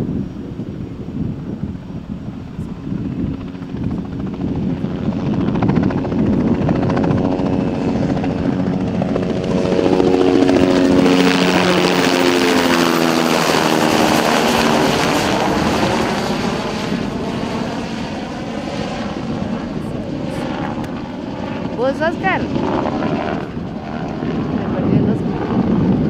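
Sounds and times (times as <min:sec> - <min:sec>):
helicopter rotor chop: 0:01.1 - 0:26.0.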